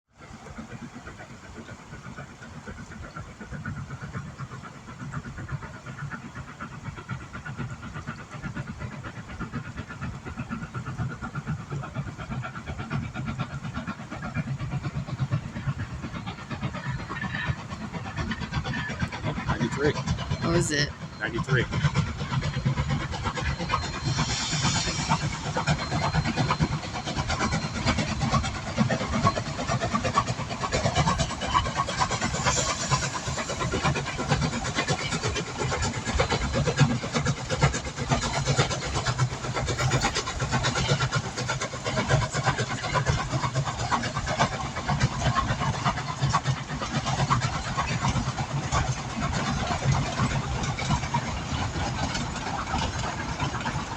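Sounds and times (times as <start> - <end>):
steam train rumbling and clattering: 0.1 - 53.9.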